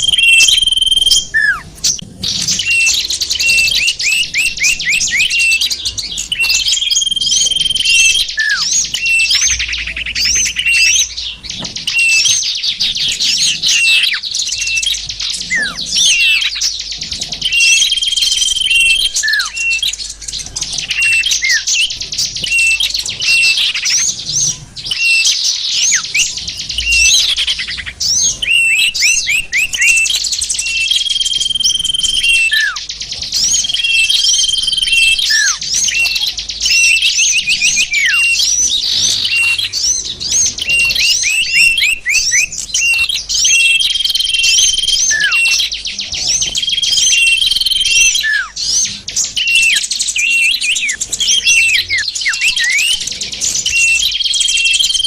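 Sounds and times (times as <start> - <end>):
small songbirds chirping and trilling: 0.0 - 55.0.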